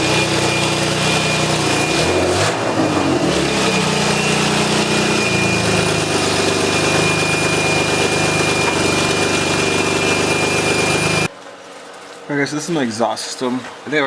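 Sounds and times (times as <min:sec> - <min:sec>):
loud car engine idling: 0:00.0 - 0:11.3.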